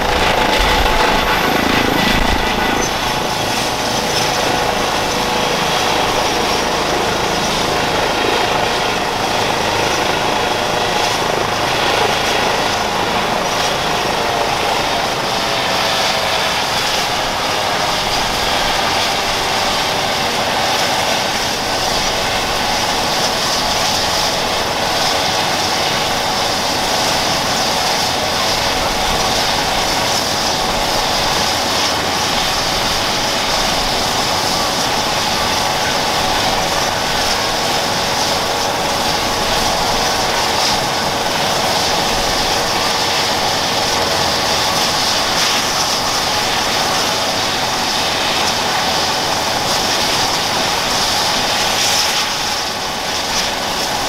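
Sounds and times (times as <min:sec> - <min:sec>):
helicopter rotor rush: 0:00.0 - 0:54.0
helicopter turbine whine: 0:00.0 - 0:54.0.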